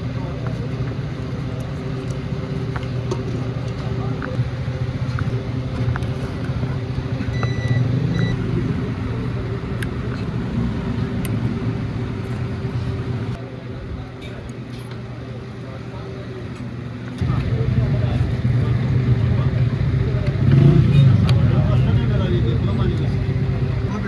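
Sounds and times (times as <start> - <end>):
low motor rumble: 0.0 - 24.0.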